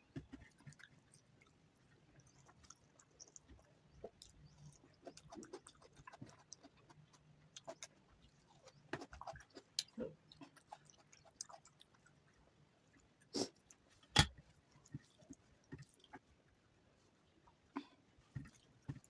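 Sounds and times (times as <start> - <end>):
person chewing food: 0.0 - 16.3, 17.8 - 19.0.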